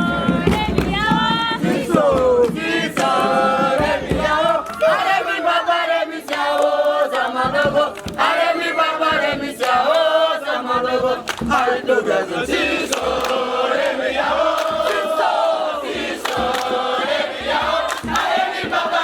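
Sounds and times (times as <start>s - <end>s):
group of voices chanting: 0.0s - 19.0s.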